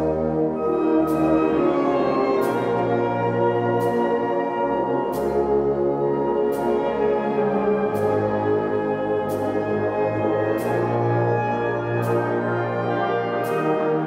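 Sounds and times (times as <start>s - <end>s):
wind band playing sustained chords: 0.0s - 14.0s.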